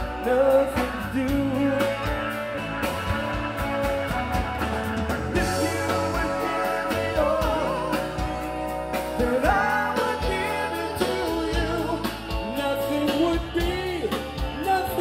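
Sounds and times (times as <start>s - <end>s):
rock band playing: 0.0s - 15.0s
bending melody line: 0.3s - 15.0s.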